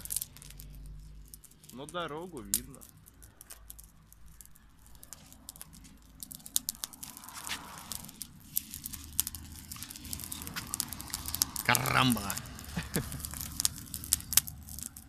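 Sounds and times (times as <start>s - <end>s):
sharp pops and snaps of fire: 0.0s - 15.0s
wood bonfire crackling: 0.0s - 15.0s.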